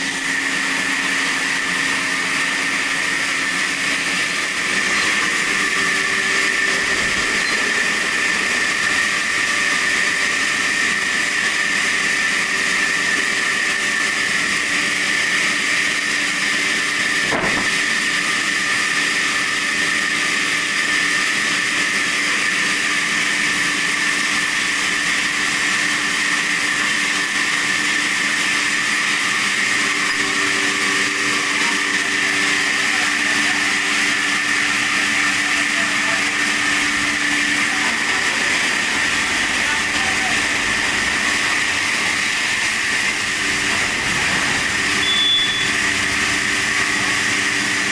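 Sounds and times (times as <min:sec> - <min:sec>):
saw cutting wood: 0:00.0 - 0:47.9.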